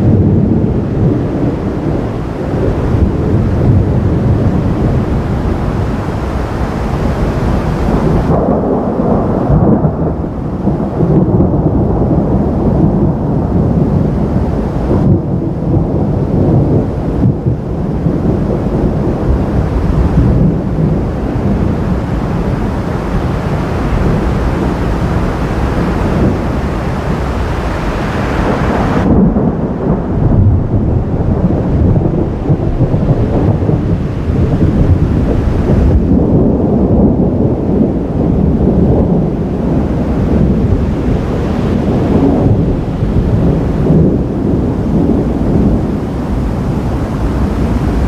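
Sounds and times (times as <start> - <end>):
rain hiss: 0.0 - 48.0
thunder rumbling: 0.0 - 48.0.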